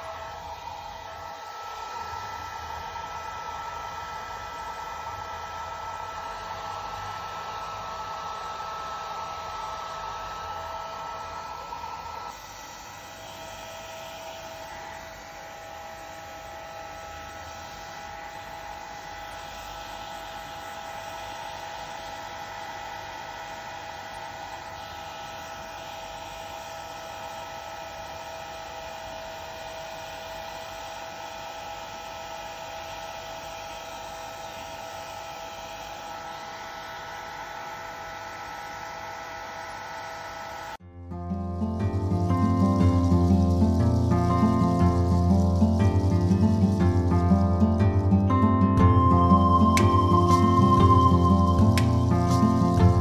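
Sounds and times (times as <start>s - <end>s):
hair dryer running: 0.0s - 40.8s, 41.8s - 48.2s, 48.8s - 53.0s.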